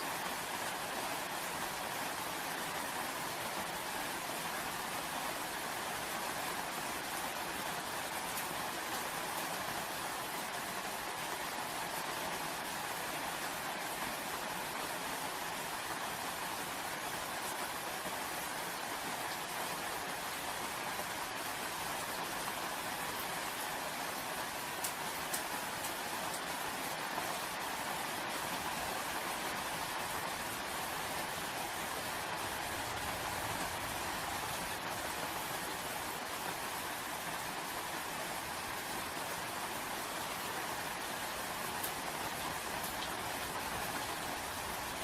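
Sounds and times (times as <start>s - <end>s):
steady rainfall: 0.0s - 45.0s.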